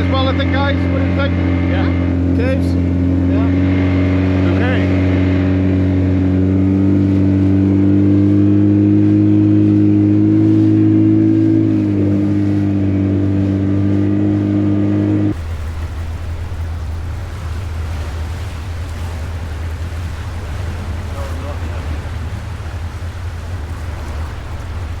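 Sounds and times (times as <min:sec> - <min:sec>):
motorboat engine running: 0:00.0 - 0:25.0
rough wind: 0:00.0 - 0:25.0
water noise: 0:00.0 - 0:25.0.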